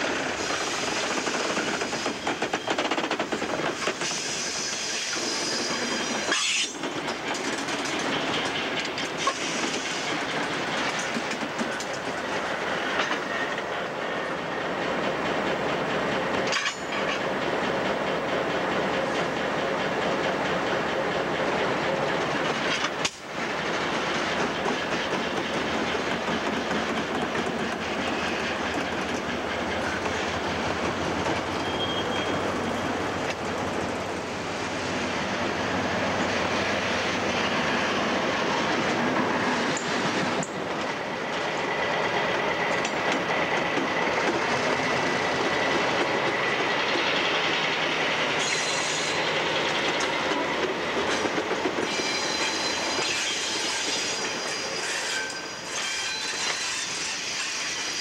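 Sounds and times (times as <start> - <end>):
diesel locomotives running: 0.0 - 58.0.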